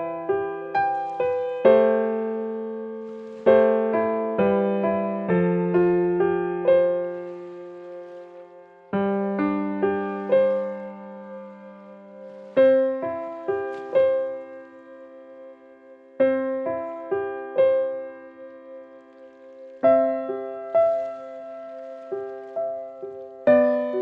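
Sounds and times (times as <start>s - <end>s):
slow solo piano: 0.0s - 24.0s.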